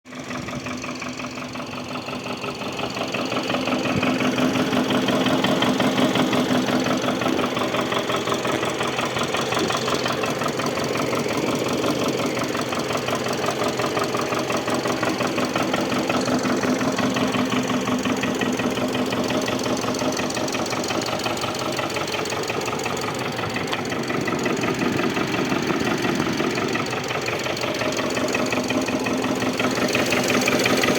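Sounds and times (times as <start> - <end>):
rapid steady engine knock: 0.0 - 30.9
car engine running: 0.1 - 30.9.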